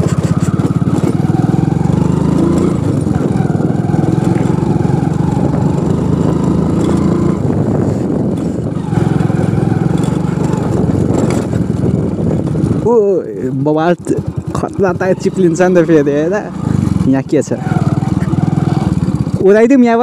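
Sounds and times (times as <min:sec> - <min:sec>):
motorcycle engine under throttle: 0:00.0 - 0:20.0.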